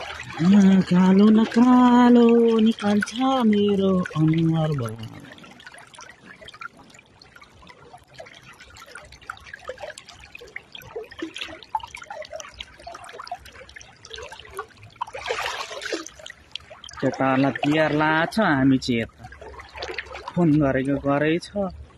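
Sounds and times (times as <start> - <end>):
splashes from wading: 0.0 - 21.2
river water sloshing and trickling: 0.0 - 21.9.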